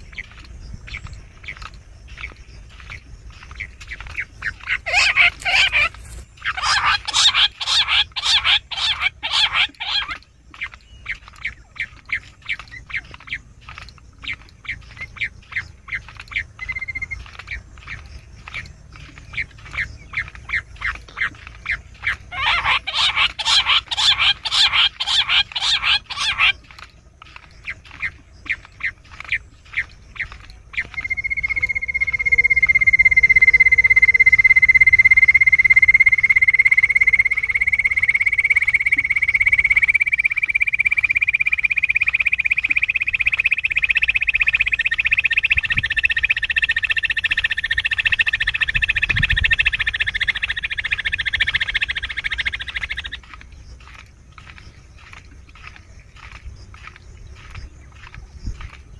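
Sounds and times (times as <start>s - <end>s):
quail calls: 0.0s - 58.7s.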